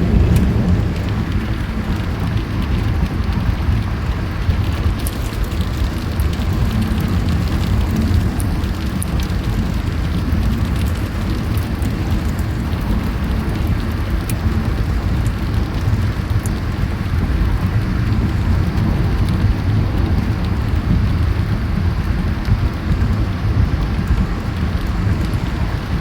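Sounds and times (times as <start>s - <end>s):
heavy rain: 0.0s - 26.0s
low thunder rumble: 0.0s - 26.0s
sharp ticks of raindrops: 0.0s - 26.0s.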